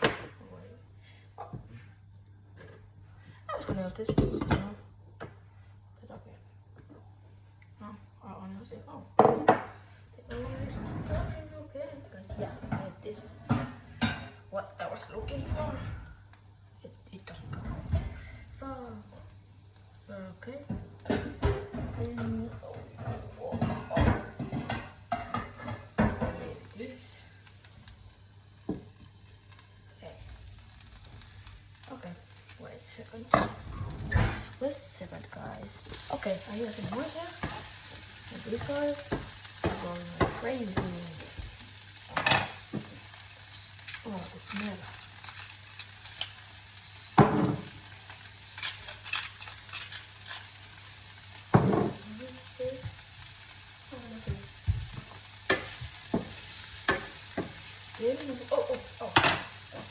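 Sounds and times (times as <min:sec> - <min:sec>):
onions sizzling in oil: 0:02.8 - 0:59.9.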